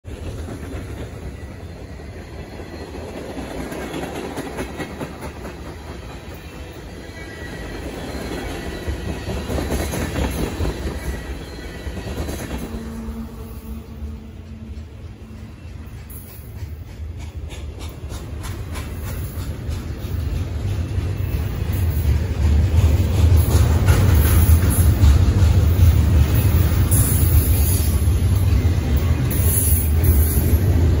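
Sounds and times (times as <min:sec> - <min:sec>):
freight train rumble: 0:00.0 - 0:31.0
train wheels clattering over rail joints: 0:00.1 - 0:06.6, 0:07.5 - 0:12.9, 0:14.3 - 0:31.0.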